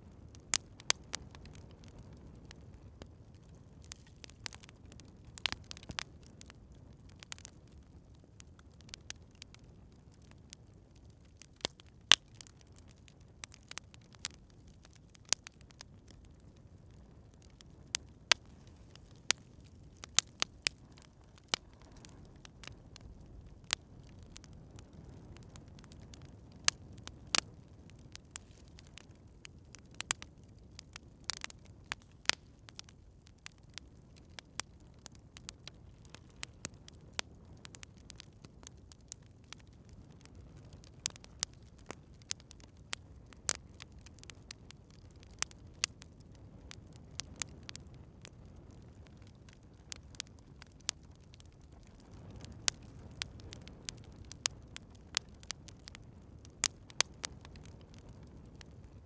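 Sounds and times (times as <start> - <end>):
campfire crackling and popping: 0.0 - 59.0
low rumble of burning fire: 0.0 - 59.0.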